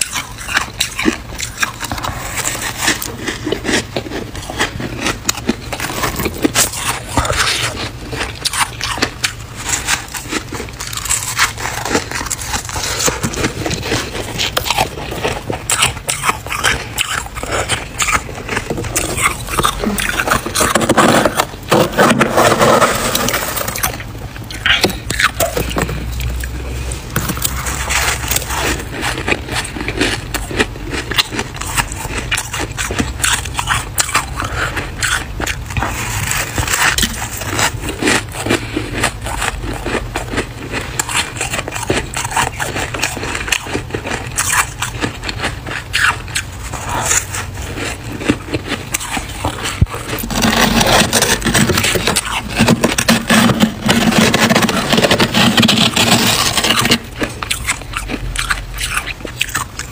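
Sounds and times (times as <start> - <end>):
metal spoon scraping frost: 0.0 - 59.9.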